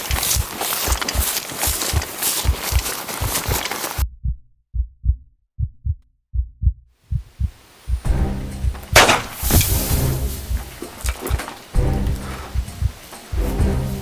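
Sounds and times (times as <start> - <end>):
heartbeat thumps: 0.0 - 14.0.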